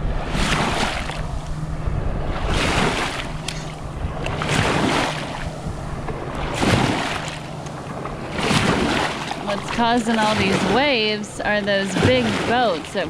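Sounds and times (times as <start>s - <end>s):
waves washing ashore: 0.0s - 13.0s
wind buffeting microphone: 0.0s - 13.0s.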